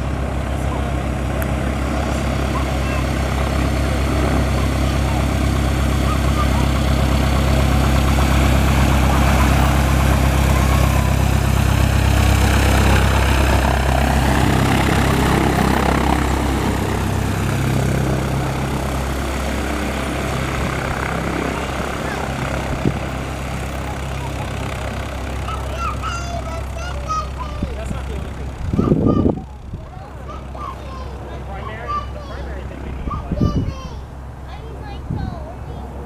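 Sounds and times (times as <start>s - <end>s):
small plane engine humming: 0.0s - 36.0s.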